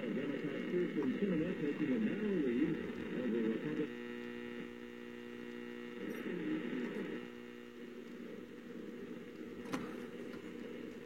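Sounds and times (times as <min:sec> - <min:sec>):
radio loudspeaker hum: 0:00.0 - 0:11.0
weak broadcast voice: 0:00.0 - 0:11.0.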